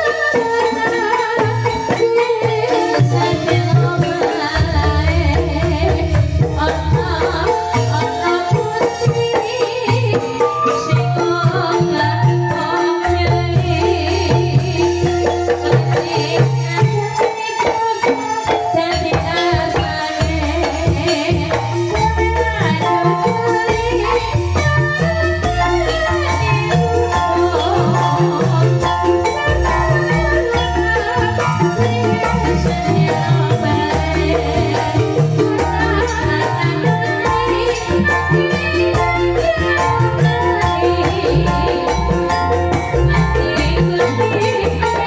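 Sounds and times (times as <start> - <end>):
bamboo xylophones playing: 0.0 - 45.0
hand drums: 0.0 - 45.0.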